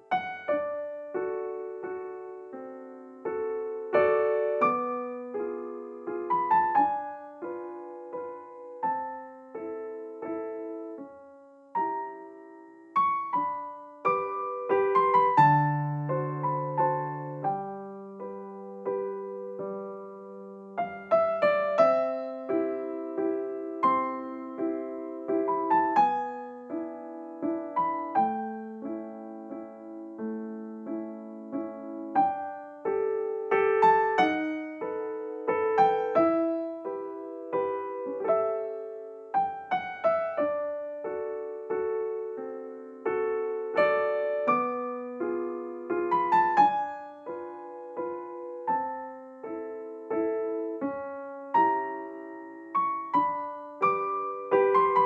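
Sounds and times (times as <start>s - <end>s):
gentle piano melody: 0.0s - 55.0s.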